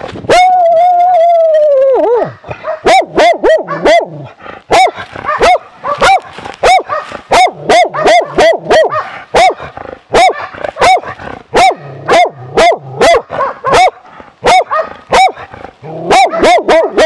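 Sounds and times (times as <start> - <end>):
hunting dog barking: 2.2 - 17.0.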